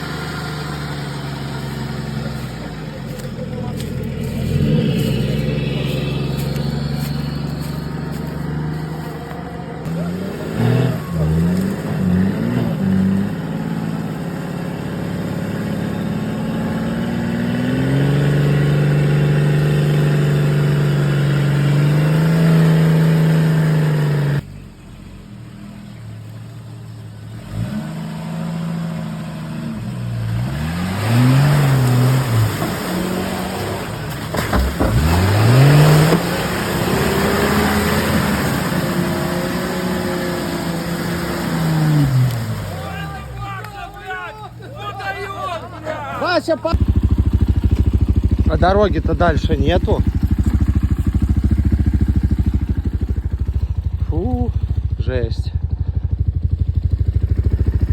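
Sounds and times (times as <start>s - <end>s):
engine revving: 0.0s - 24.5s, 27.2s - 43.4s, 46.2s - 57.9s.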